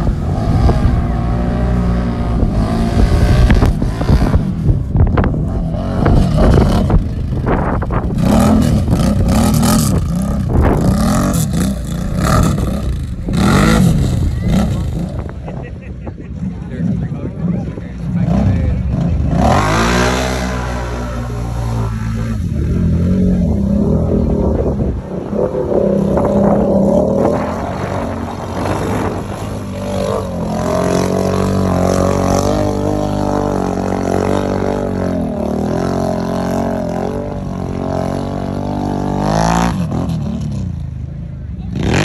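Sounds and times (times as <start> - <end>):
atv engine revving: 0.0 - 42.0
vehicle churning through mud: 0.0 - 42.0.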